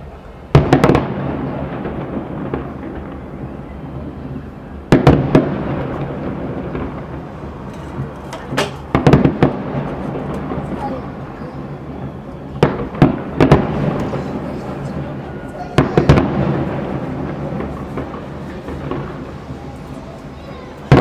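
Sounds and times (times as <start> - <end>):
firework rumble and crackle: 0.0 - 21.0
firework bangs: 0.5 - 21.0.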